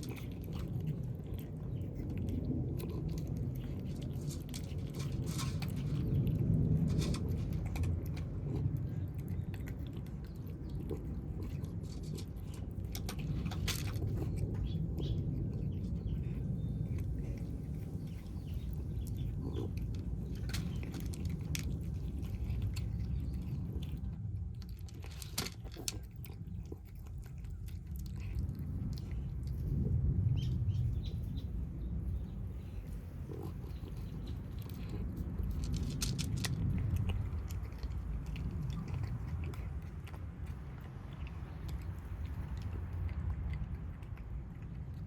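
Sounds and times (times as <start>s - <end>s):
cats crunching food: 0.0s - 45.0s
steady low rumble: 0.0s - 45.0s.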